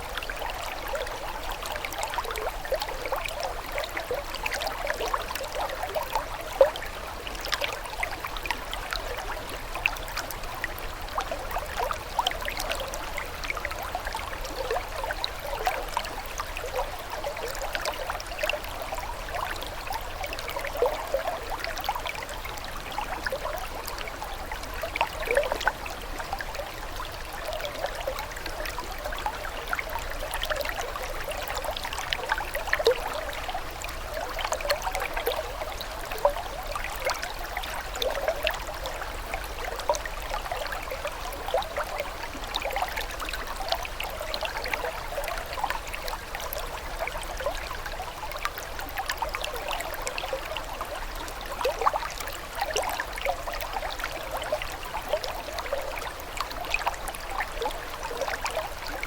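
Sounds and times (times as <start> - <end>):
stream running over stones: 0.0 - 59.0.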